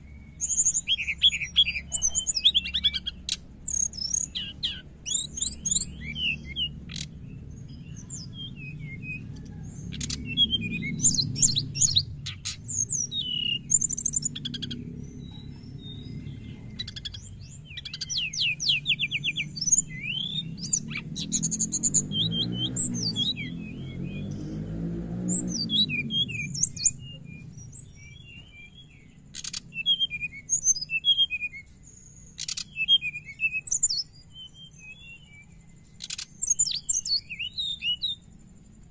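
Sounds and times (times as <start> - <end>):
bird chattering and chirping: 0.0 - 38.9
low background hum: 0.0 - 38.9.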